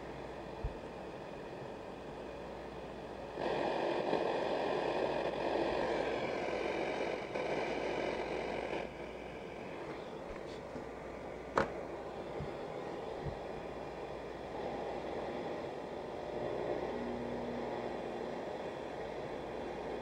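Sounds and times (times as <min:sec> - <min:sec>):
tv static hiss: 0:00.0 - 0:20.0.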